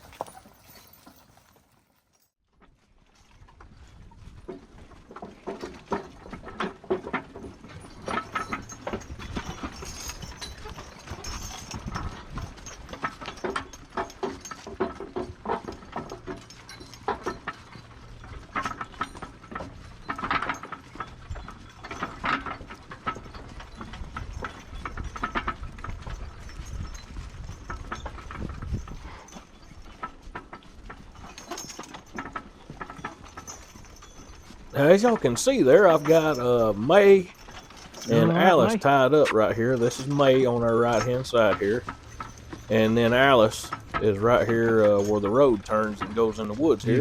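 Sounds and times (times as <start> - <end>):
mule hooves clopping: 0.0 - 47.0
wagon and harness rattling: 0.0 - 47.0.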